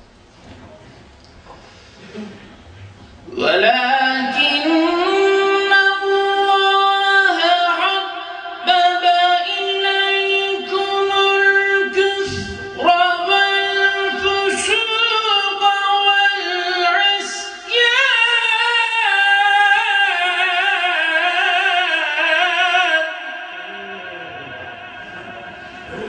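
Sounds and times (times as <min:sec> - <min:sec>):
man chanting through a microphone: 0:03.3 - 0:26.0.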